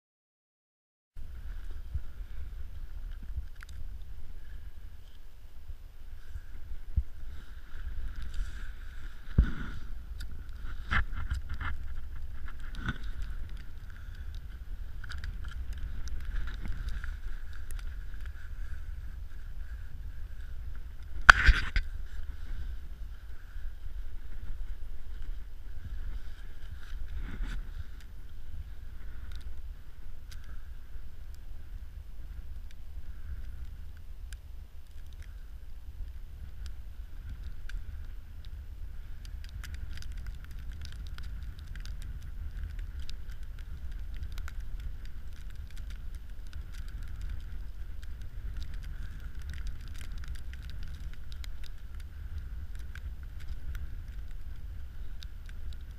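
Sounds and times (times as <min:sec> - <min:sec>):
wind rumble on microphone: 0:01.2 - 0:55.9.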